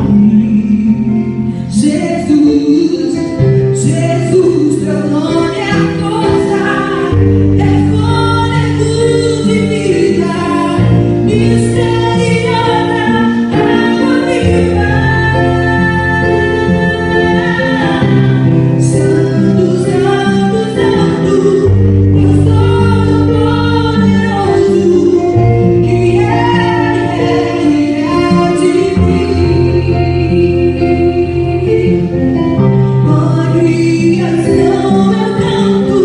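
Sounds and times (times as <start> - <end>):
women singing worship song: 0.0 - 32.2, 33.0 - 36.0
instrumental backing with bass: 0.0 - 36.0.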